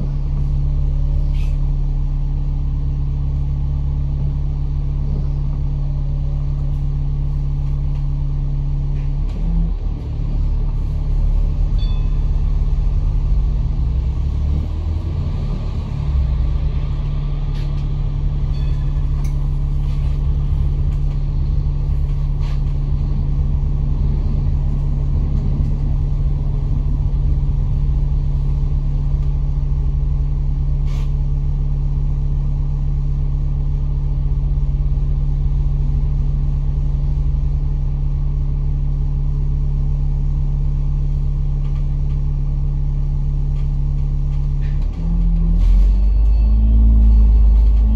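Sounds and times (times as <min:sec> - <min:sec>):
bus engine drone: 0:00.0 - 0:47.9.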